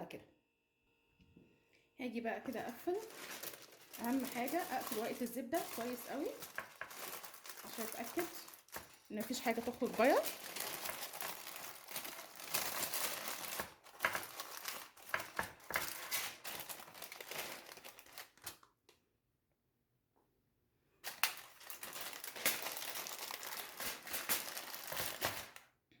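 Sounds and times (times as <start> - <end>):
baking paper crinkling: 2.4 - 18.8, 21.0 - 25.7.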